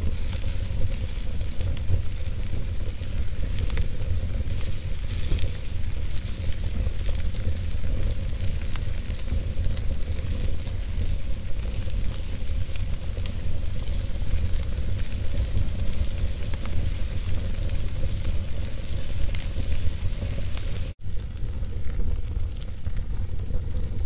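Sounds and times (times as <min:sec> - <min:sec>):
flames rumbling and hissing: 0:00.0 - 0:24.0
logs crackling and popping: 0:00.0 - 0:24.0.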